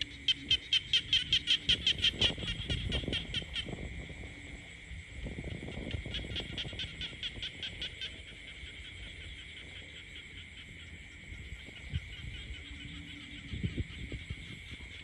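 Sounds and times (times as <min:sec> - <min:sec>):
frog pulsed call: 0:00.0 - 0:15.0.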